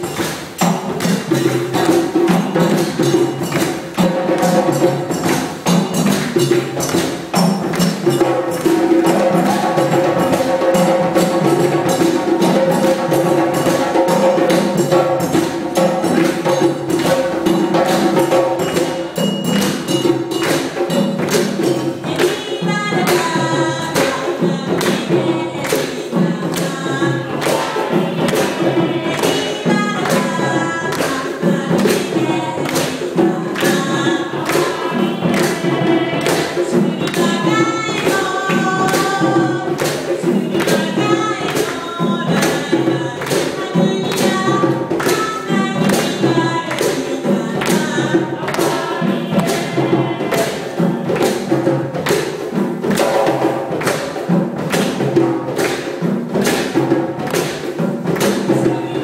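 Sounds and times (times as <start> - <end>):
hand drums playing fast rhythm: 0.0 - 59.0
people singing: 0.0 - 59.0.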